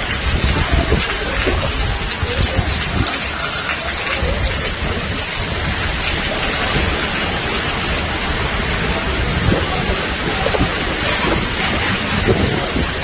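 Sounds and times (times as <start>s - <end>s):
heavy rain on leaves: 0.0s - 13.0s.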